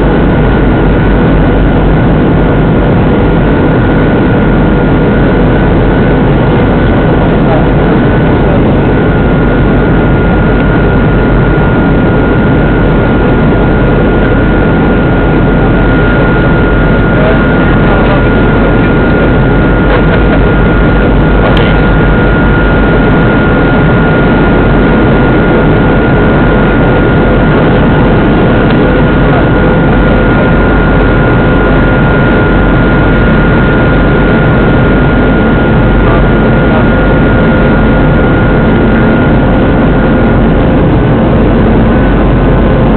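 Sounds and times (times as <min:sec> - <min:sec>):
jet engines rushing and whining: 0:00.0 - 0:42.9.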